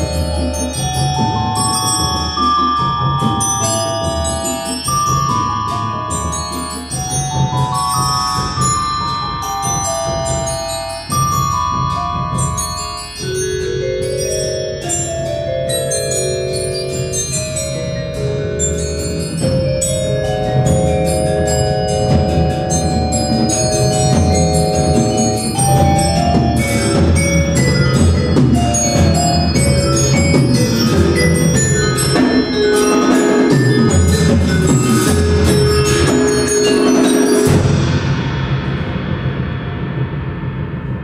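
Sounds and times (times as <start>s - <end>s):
tuned mallet percussion ensemble: 0.0s - 38.7s.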